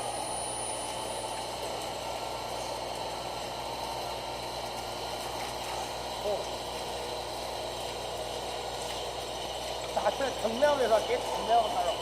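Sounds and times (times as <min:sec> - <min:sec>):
machine tool hum and hiss: 0:00.0 - 0:12.0.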